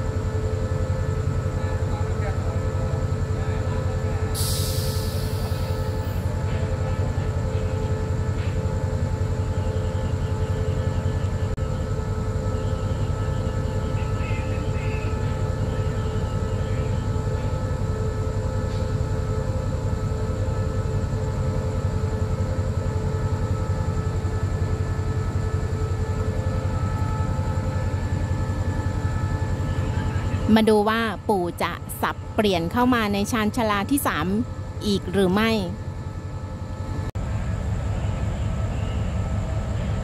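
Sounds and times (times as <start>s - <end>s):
diesel train engine idling: 0.0s - 40.0s.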